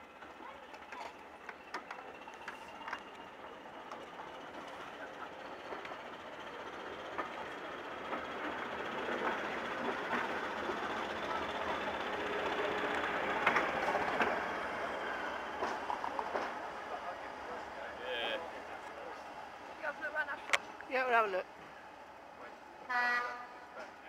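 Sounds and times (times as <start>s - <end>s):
railway coaches rolling: 0.0s - 24.0s.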